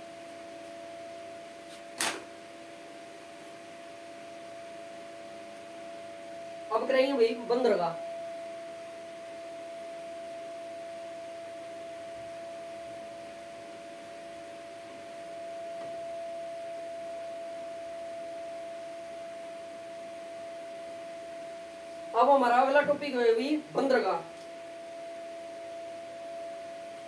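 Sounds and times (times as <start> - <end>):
steady hum tone: 0.0 - 27.0
low hum: 2.2 - 27.0.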